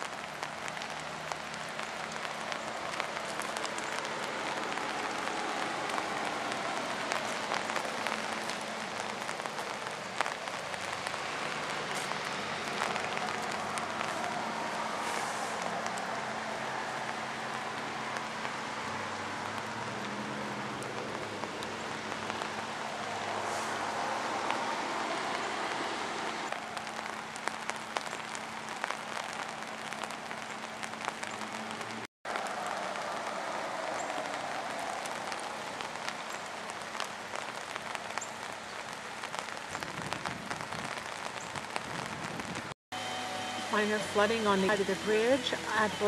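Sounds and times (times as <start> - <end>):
rain hissing over creek: 0.0 - 46.0.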